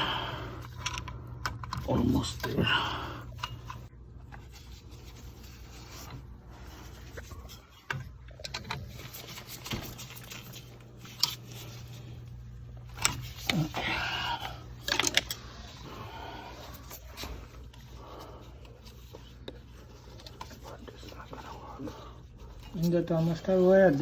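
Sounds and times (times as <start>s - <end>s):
steady low hum: 0.0s - 24.0s
wire handling clicks and scraping: 0.6s - 24.0s.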